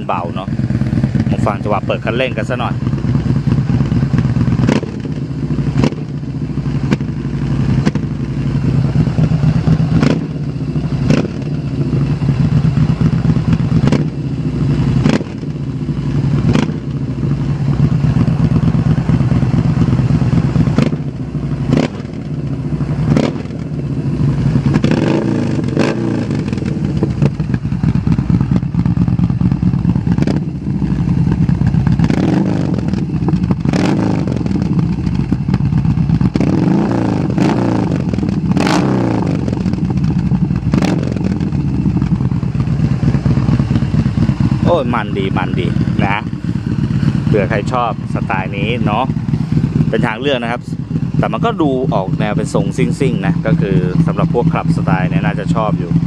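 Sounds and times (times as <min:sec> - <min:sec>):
exhaust cracks: 0:00.0 - 0:56.0
motorcycle engine revving: 0:00.0 - 0:56.0.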